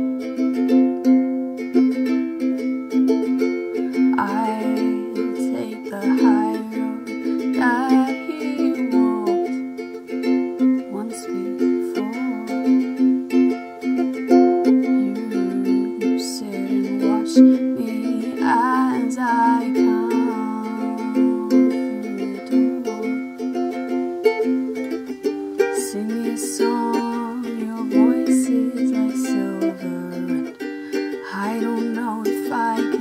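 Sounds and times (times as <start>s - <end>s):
ukulele picked chords: 0.0s - 33.0s.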